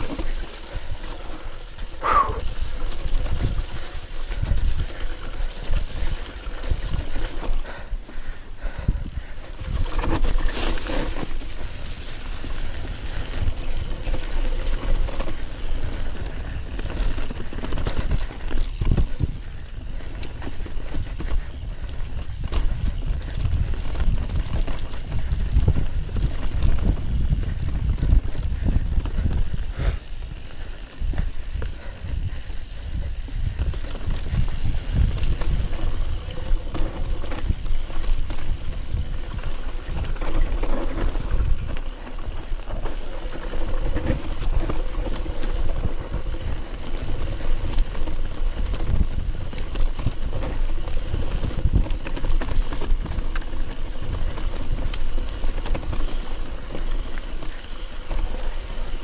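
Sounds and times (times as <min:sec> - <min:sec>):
bike rattling and knocking: 0:00.0 - 0:59.0
tyres rumbling over dirt: 0:00.0 - 0:59.0
wind buffeting microphone: 0:00.0 - 0:59.0.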